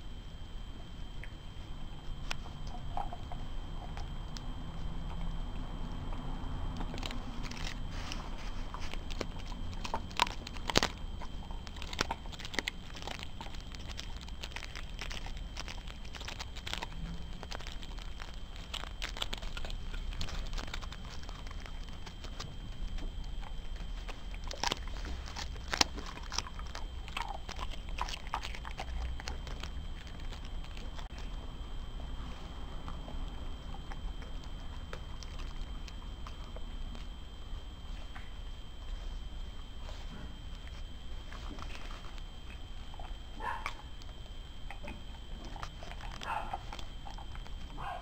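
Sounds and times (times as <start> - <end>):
dog chewing bones crunching: 1.0 - 48.0.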